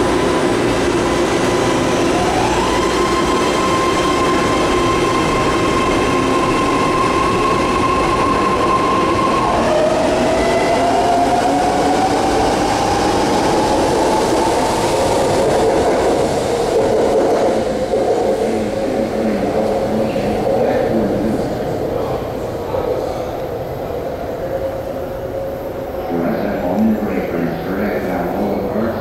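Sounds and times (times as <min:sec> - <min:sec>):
electric train whine: 0:00.0 - 0:29.0
train wheels rumbling on rails: 0:00.0 - 0:29.0.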